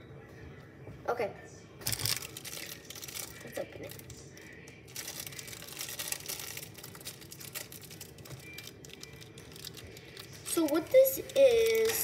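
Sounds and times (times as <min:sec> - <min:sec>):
plastic wrapper crinkling: 0:01.8 - 0:12.0.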